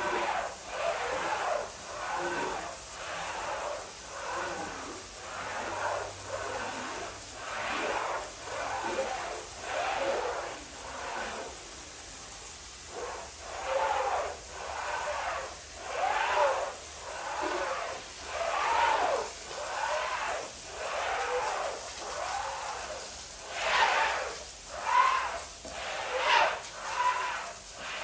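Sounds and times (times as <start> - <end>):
squeegee swishing on wet rug: 0.0 - 28.0.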